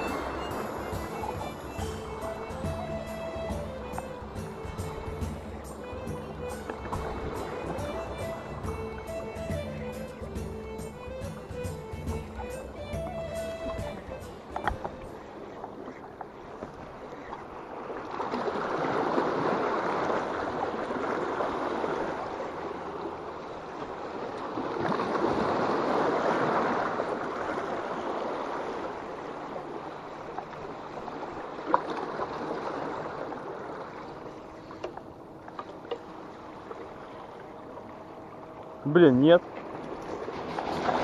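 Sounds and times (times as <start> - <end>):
sea water lapping: 0.0 - 41.0.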